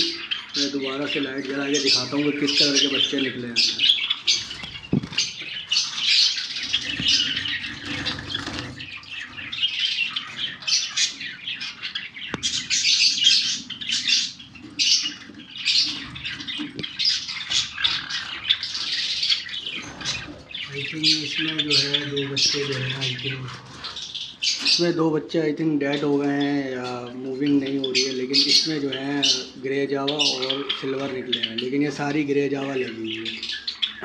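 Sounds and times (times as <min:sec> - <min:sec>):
caged birds chirping and squawking: 0:00.0 - 0:34.0.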